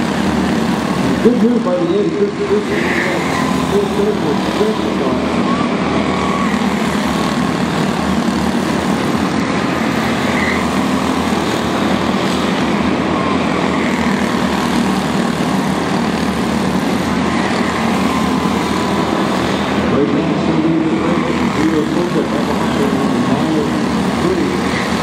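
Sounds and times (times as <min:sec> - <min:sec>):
small race car engines buzzing: 0:00.0 - 0:25.0.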